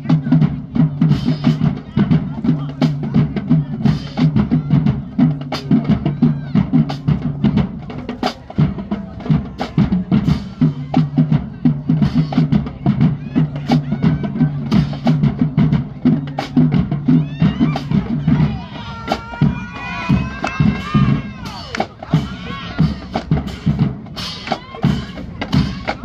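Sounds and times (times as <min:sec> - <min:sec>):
marching drumline: 0:00.0 - 0:26.0.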